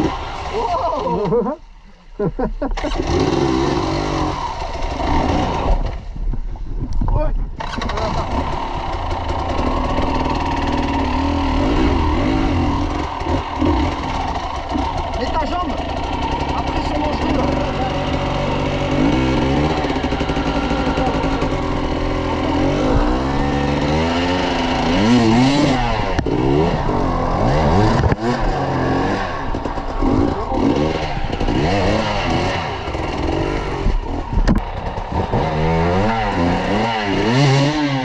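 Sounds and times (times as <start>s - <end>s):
dirt bike engines revving: 0.0s - 6.3s, 7.4s - 38.0s.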